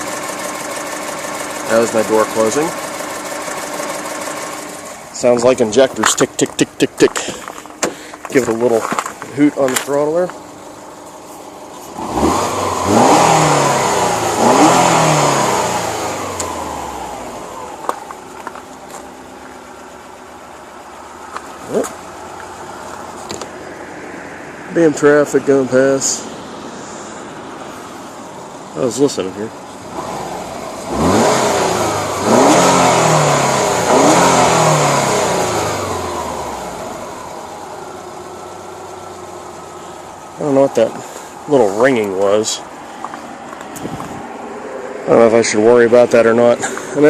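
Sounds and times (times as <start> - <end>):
turbocharged car engine revving: 0.0 - 9.3, 10.1 - 47.0.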